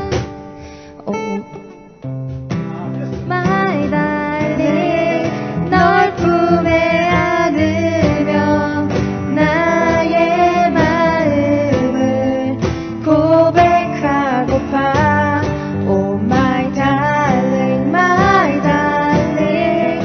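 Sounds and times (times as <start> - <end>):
guitar accompaniment: 0.0 - 20.0
person singing: 1.0 - 1.9, 2.9 - 20.0.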